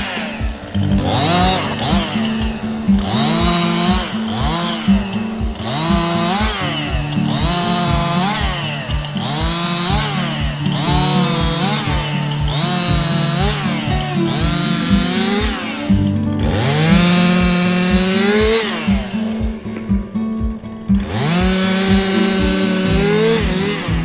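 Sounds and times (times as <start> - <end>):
chainsaw revving while cutting: 0.0 - 20.0, 21.0 - 24.0
background music with beat: 0.0 - 24.0.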